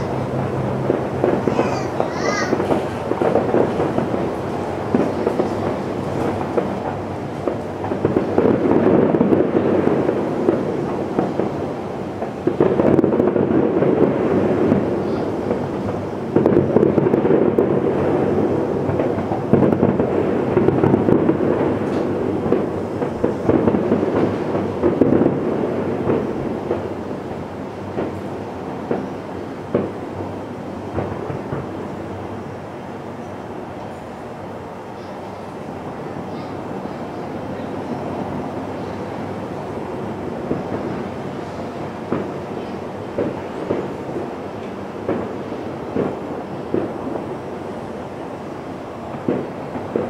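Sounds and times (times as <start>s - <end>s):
distant fireworks booms: 0.0s - 50.0s
fireworks crackles and pops: 0.0s - 50.0s.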